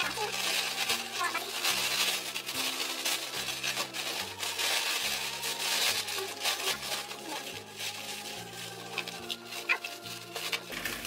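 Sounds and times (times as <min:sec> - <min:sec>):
background music: 0:00.0 - 0:11.0
plastic bag rustling and crinkling: 0:00.0 - 0:11.0.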